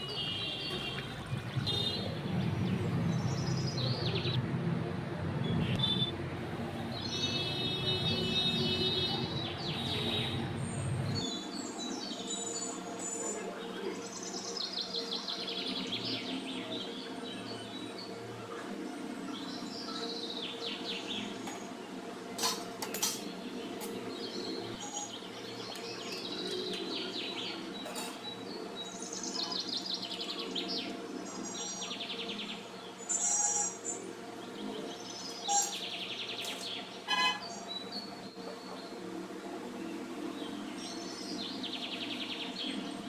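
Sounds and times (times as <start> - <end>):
steady background hum: 0.0 - 43.0
birds chirping and trilling: 6.9 - 43.0.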